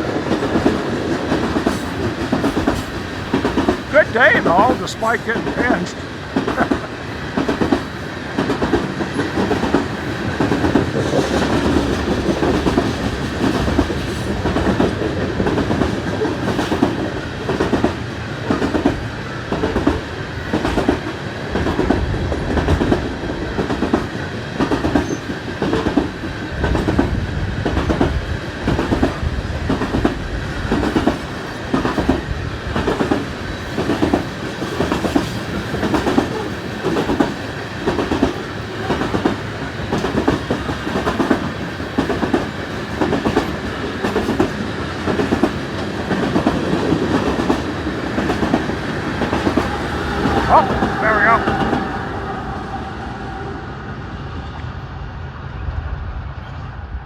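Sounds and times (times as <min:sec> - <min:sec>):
train rumble: 0:00.0 - 0:57.0
train wheels clicking over rail joints: 0:00.2 - 0:03.9, 0:06.3 - 0:50.4.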